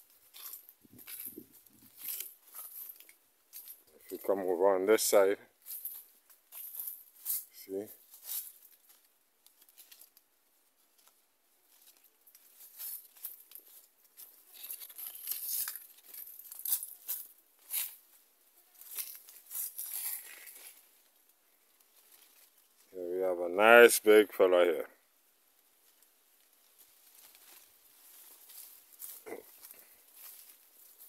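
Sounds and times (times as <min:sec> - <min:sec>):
leaves rustling and crackling: 0:00.0 - 0:22.9, 0:25.4 - 0:31.0.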